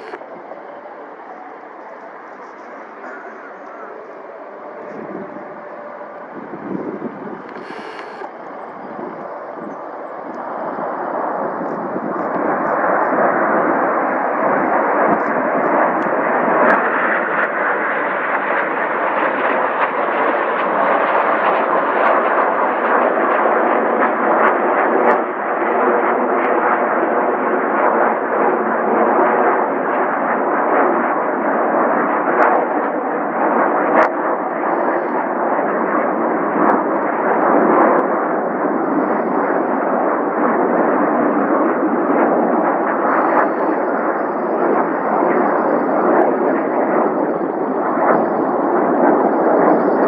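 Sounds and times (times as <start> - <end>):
aircraft engine roaring: 0.0 - 50.0.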